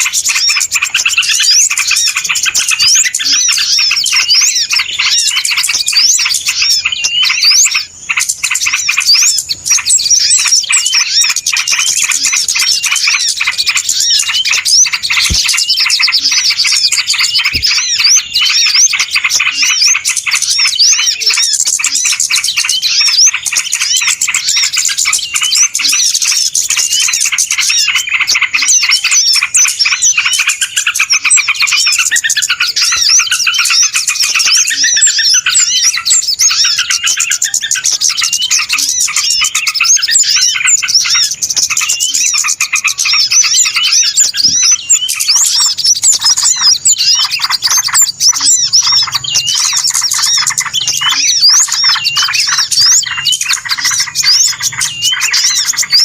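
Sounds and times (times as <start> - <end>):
small birds chirping chorus: 0.0 - 56.0.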